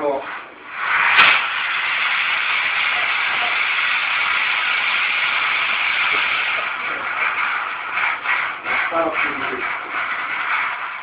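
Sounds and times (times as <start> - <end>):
fog jetting hiss: 0.0 - 11.0.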